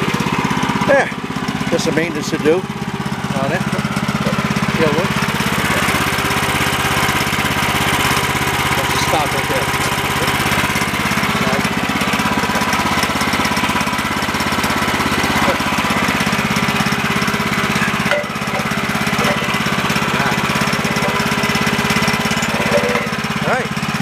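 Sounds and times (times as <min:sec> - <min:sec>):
sawmill gas engine running: 0:00.0 - 0:24.0.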